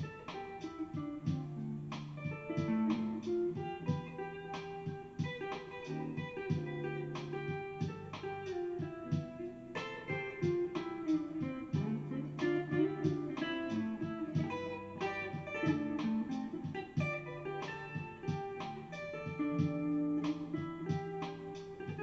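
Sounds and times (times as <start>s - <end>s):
electric guitar arpeggios: 0.0s - 22.0s.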